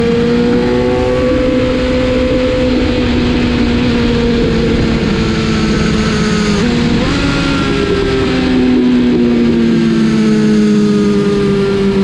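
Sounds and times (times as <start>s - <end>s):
loud steady rushing noise: 0.0s - 12.0s
motorcycle engine at high revs: 0.0s - 12.0s.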